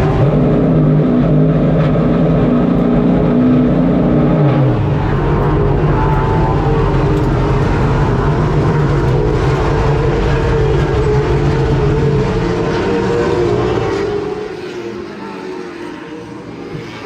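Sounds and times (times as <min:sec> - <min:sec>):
car engine running at high speed: 0:00.0 - 0:17.0.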